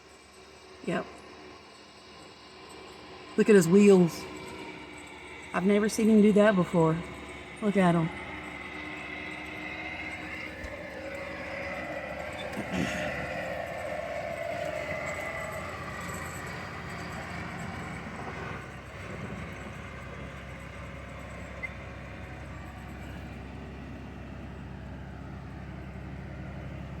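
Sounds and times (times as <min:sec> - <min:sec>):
diesel engine rumble: 0:00.0 - 0:27.0
high machine whine: 0:00.0 - 0:27.0.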